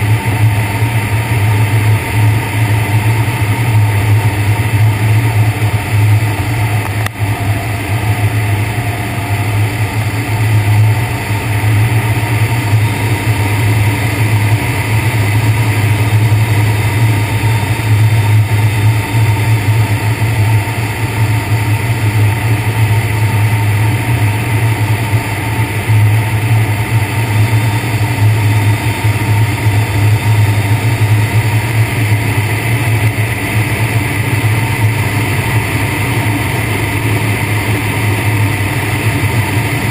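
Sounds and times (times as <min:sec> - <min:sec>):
ultralight aircraft droning in flight: 0:00.0 - 0:39.9.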